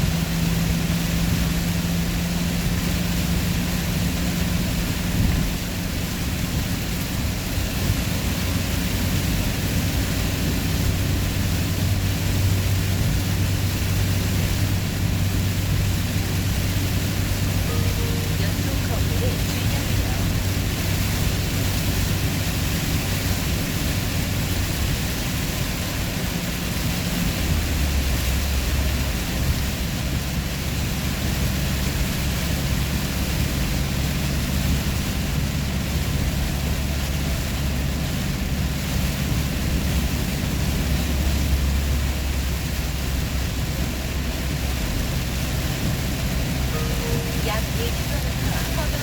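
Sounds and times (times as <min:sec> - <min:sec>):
road noise: 0:00.0 - 0:49.0
vehicle engine drone: 0:00.0 - 0:49.0.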